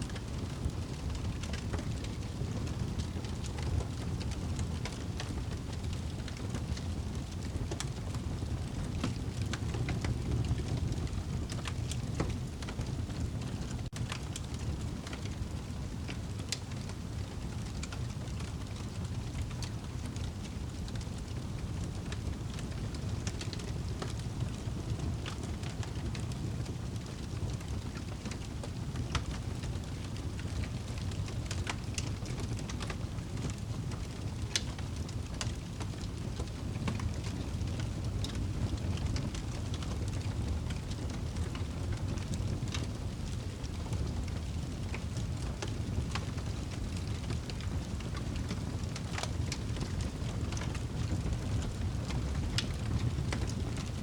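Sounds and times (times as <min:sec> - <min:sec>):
fire crackling: 0:00.0 - 0:54.0
low rumble of flames: 0:00.0 - 0:54.0.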